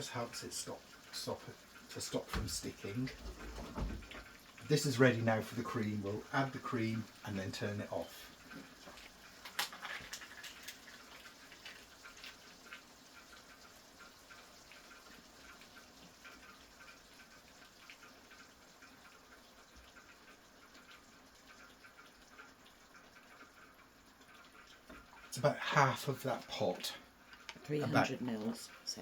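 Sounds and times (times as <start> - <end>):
pasta pot bubbling: 0.0 - 29.0.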